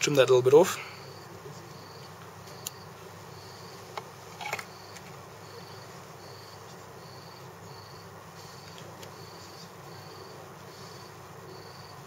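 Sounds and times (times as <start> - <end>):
cricket chirping: 0.8 - 12.0.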